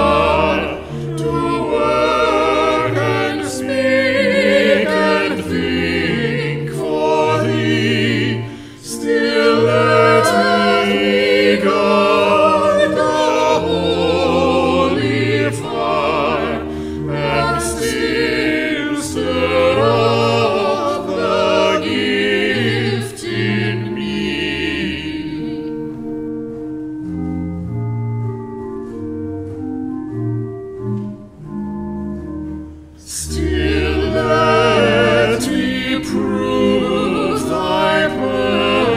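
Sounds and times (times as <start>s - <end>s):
choir singing: 0.0s - 25.9s, 33.0s - 38.9s
instrumental accompaniment: 0.0s - 38.9s.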